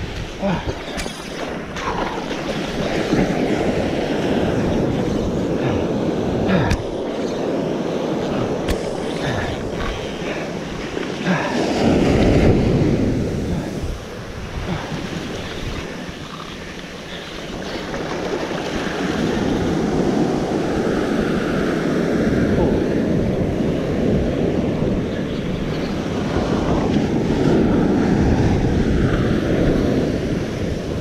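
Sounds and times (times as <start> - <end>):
surf washing up sand: 0.0 - 31.0
wind buffeting microphone: 0.0 - 31.0.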